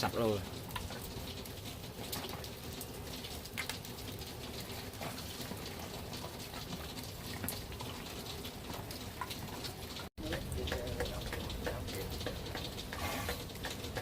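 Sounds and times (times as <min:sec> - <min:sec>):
rain pattering: 0:00.0 - 0:14.0
sharp drips: 0:00.0 - 0:14.0.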